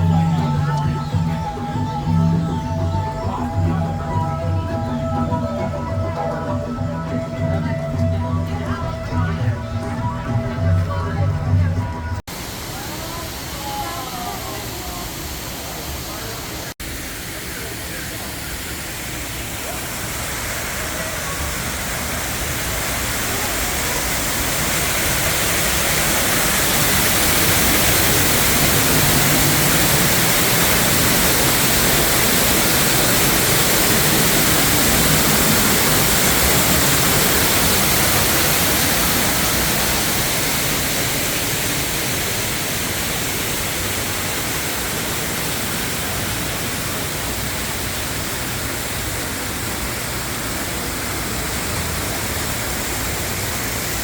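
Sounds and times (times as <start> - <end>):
rush of falling water: 0.0 - 9.8, 12.2 - 54.0.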